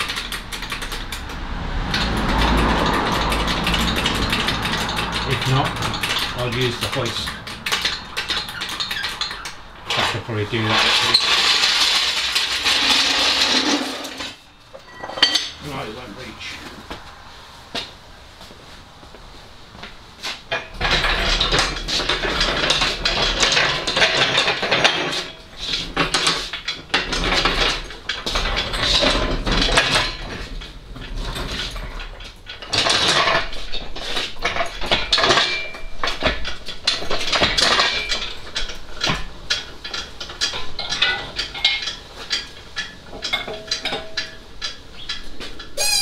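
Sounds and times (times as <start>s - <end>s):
metal parts clattering: 1.9s - 15.8s, 20.5s - 46.0s.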